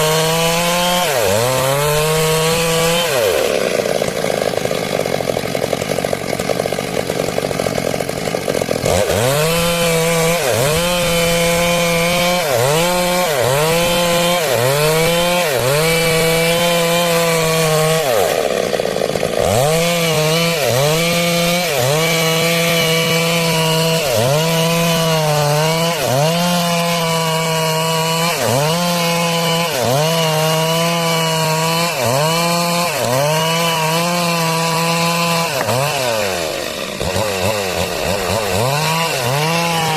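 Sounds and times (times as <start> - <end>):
chainsaw sawing timber: 0.0 - 39.9.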